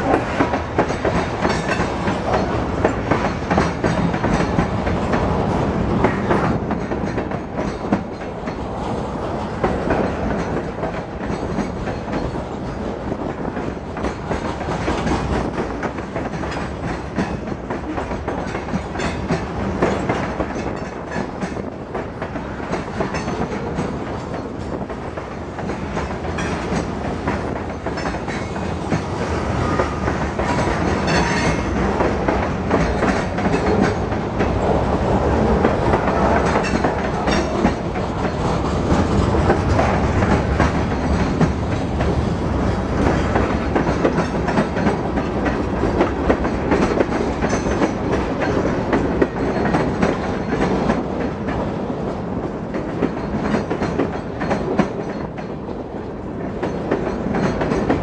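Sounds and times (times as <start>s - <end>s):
freight train wheels rumbling: 0.0s - 58.0s
wheels clacking over rail joints: 0.0s - 58.0s.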